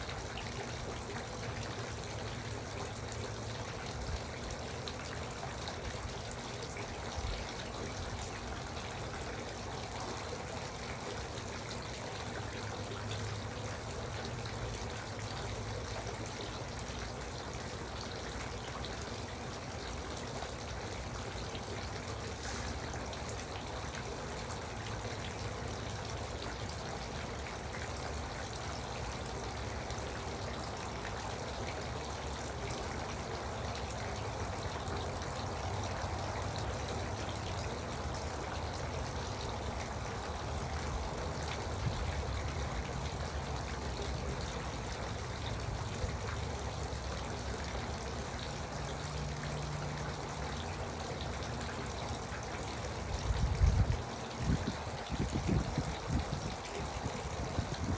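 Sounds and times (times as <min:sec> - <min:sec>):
fountain water trickling and splashing: 0:00.0 - 0:57.9.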